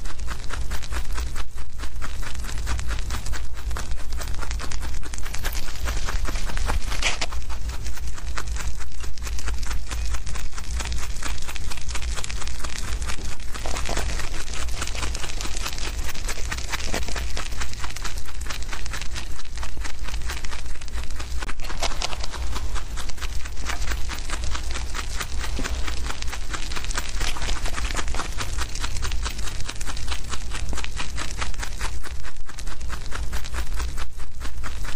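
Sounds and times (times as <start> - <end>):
rabbits chewing grass: 0.0 - 34.9.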